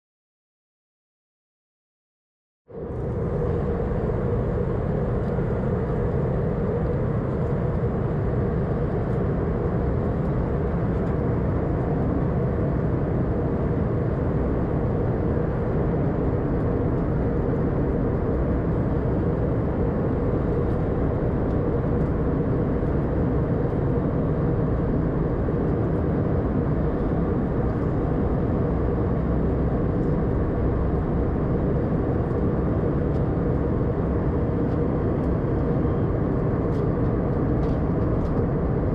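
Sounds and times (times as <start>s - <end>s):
airflow rushing in cabin: 2.7s - 38.9s
jet engines droning: 2.7s - 38.9s.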